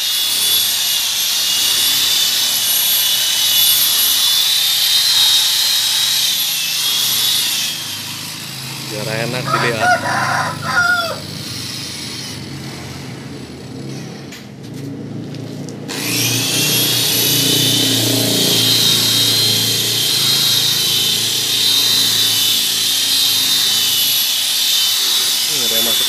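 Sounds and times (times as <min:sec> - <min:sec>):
electric car polisher whining: 0:00.0 - 0:14.0, 0:14.6 - 0:26.0.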